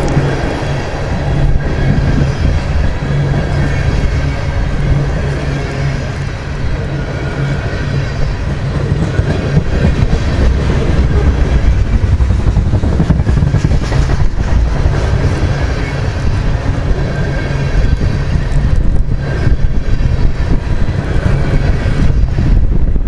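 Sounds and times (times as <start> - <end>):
steel wheels clacking over rail joints: 0.0 - 22.6
freight train rumble: 0.0 - 23.0.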